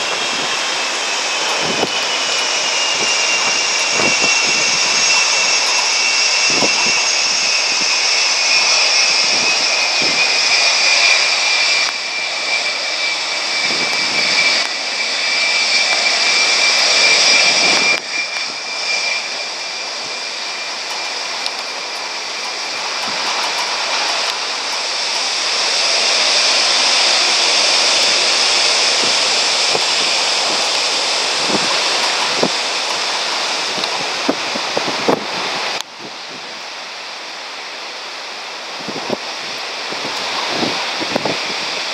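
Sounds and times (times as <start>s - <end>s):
jet engines rushing and whining: 0.0s - 41.9s.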